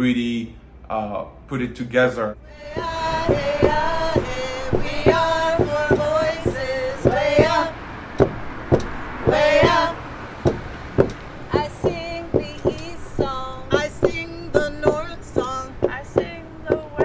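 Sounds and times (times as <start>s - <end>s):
men and women singing: 2.4s - 17.0s
steady drumbeat: 2.6s - 17.0s.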